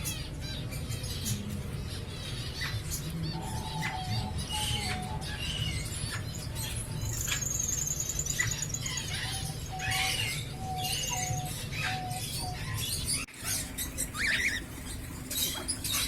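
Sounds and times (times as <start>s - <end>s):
aviary birds chirping: 0.0s - 16.0s.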